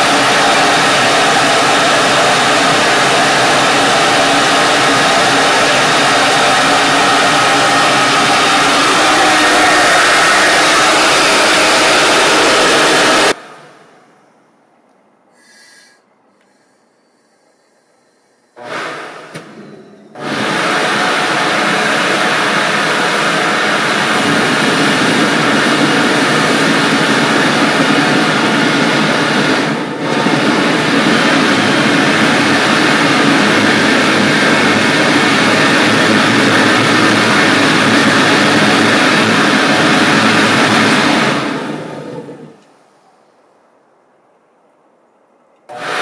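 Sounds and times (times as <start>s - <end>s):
gas turbine engine running: 0.0s - 14.6s, 15.2s - 43.4s, 45.7s - 46.0s.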